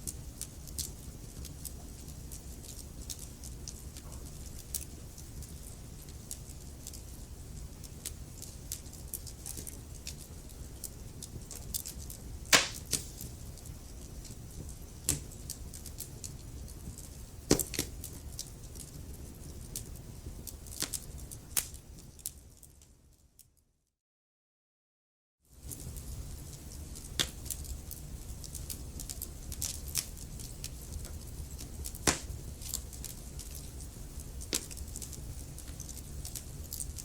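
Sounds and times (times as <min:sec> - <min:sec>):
wood fire crackling: 0:00.0 - 0:23.0, 0:25.5 - 0:37.0.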